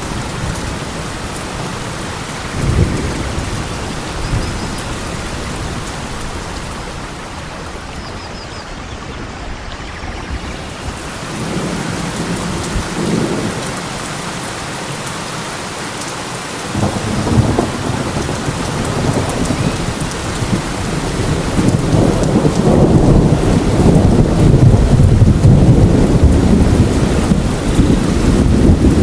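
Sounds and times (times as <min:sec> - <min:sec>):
heavy rain: 0:00.0 - 0:29.0
rolling thunder: 0:02.4 - 0:14.2, 0:16.7 - 0:29.0.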